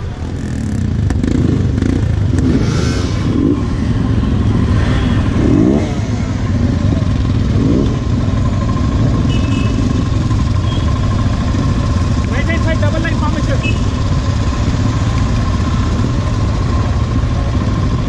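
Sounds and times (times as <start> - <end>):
motorcycle engine revving: 0.0 - 18.0
motorcycle engines rumbling: 0.0 - 18.0.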